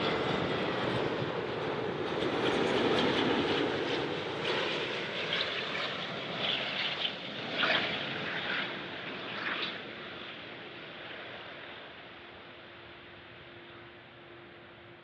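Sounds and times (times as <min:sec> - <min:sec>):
jet airliner roar overhead: 0:00.0 - 0:15.0.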